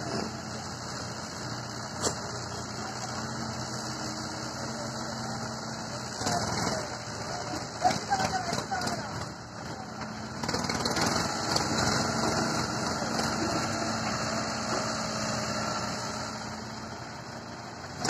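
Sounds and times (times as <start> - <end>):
excavator working: 0.0 - 18.0
tractor diesel engines idling: 0.0 - 18.0.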